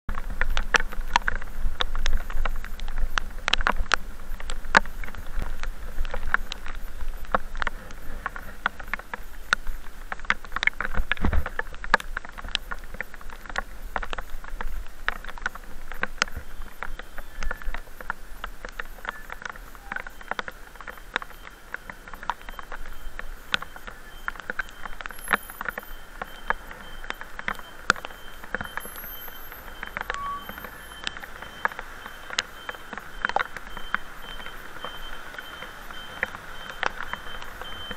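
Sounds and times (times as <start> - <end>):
raindrops tapping on camera: 0.1 - 37.9
wind and road rumble: 0.1 - 37.9.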